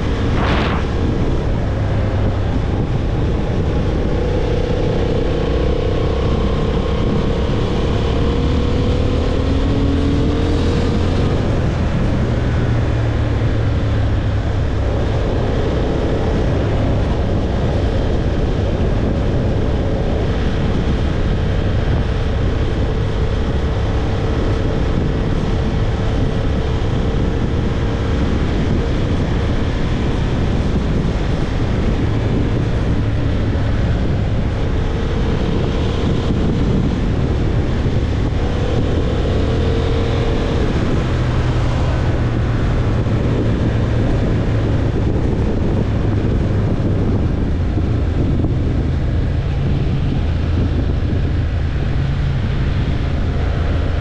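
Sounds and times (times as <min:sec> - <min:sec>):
motorcycle engine cruising: 0:00.0 - 0:54.0
wind on microphone: 0:00.0 - 0:54.0.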